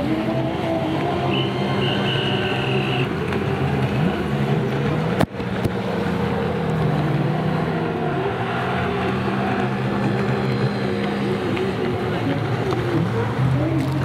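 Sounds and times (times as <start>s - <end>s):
jet ski engines racing: 0.0s - 14.0s.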